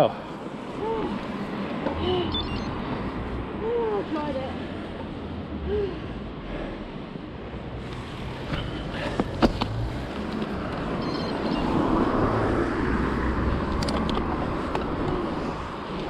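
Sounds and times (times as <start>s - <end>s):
car passing: 0.0s - 16.0s
road traffic noise: 0.0s - 16.0s.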